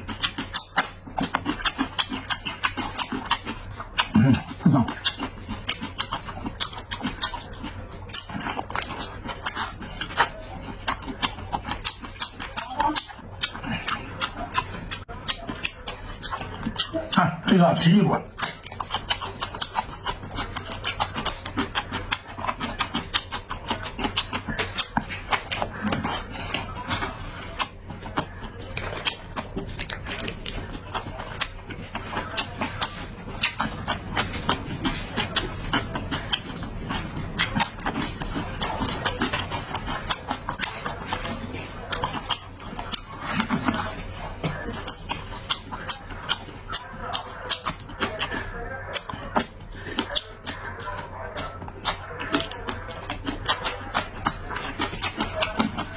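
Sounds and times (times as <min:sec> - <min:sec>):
person chewing food: 0:00.0 - 0:55.9.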